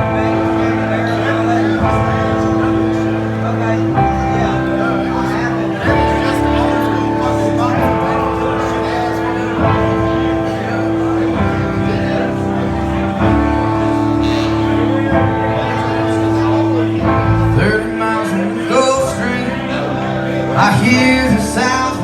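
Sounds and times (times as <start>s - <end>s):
country-rock band playing: 0.0s - 22.0s
guitar: 0.0s - 22.0s.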